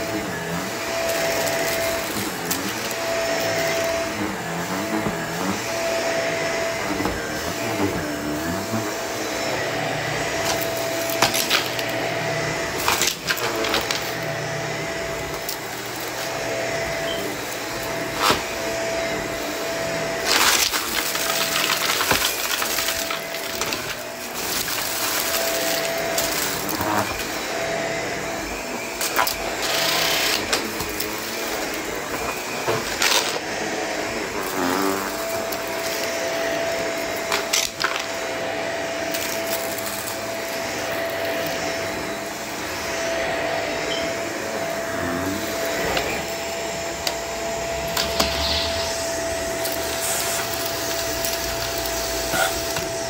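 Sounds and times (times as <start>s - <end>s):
vacuum cleaner whine: 0.0s - 53.0s.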